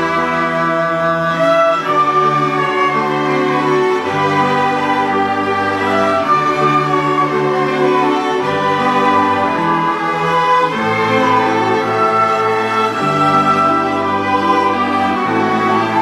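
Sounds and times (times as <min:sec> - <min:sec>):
string orchestra bowed melody: 0:00.0 - 0:16.0.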